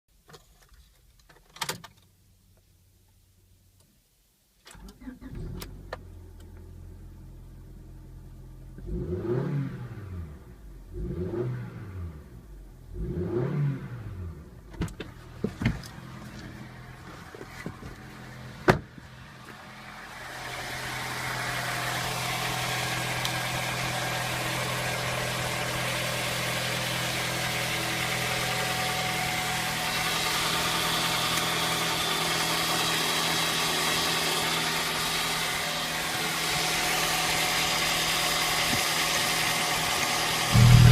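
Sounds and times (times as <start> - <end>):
car engine idling and revving: 5.0 - 40.9.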